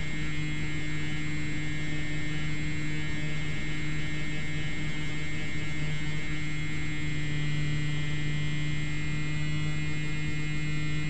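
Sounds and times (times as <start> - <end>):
model plane motor humming: 0.0 - 11.0.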